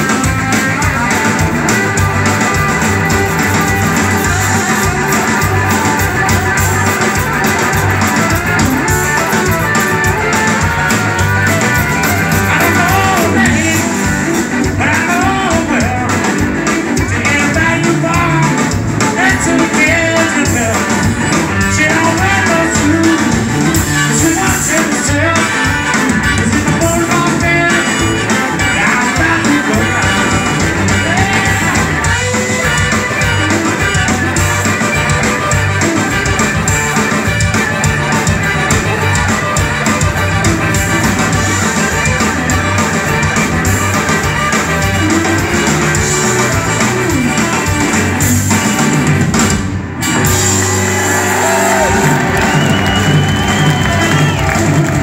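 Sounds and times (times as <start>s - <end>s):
harmonica: 0.0s - 17.4s, 18.2s - 49.3s
blues rock band playing: 0.0s - 55.0s.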